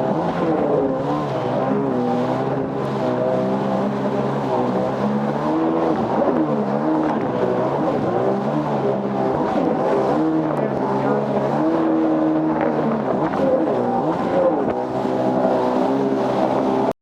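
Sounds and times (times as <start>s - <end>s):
jet ski engines revving: 0.0s - 17.0s.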